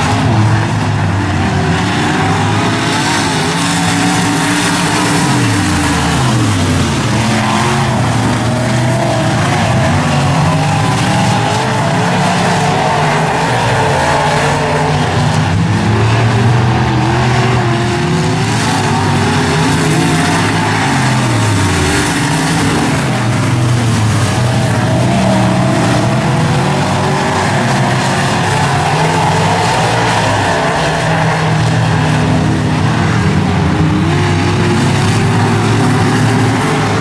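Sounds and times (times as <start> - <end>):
race car engines at high power: 0.0 - 37.0.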